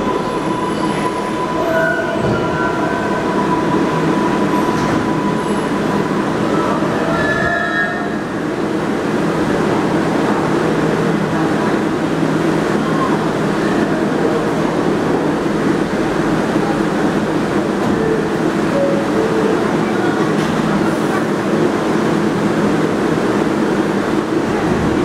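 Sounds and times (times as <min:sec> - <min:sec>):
subway train humming: 0:00.0 - 0:25.0.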